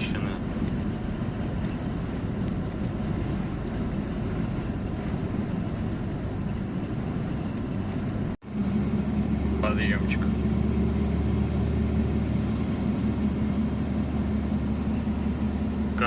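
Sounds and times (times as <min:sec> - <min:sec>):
road noise: 0:00.0 - 0:16.0
truck engine droning: 0:00.0 - 0:16.0.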